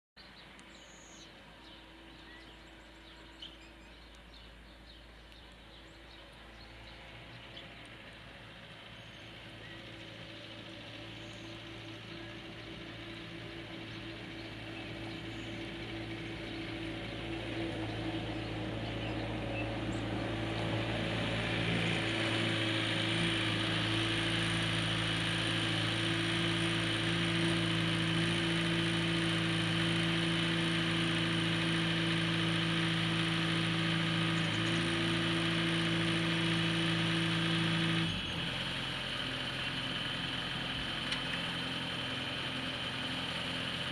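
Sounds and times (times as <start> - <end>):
loader engine running: 0.2 - 43.9.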